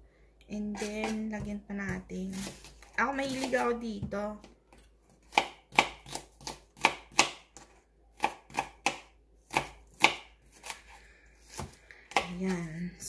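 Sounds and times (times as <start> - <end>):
knife chopping on plastic board: 0.7 - 10.8, 11.5 - 12.4.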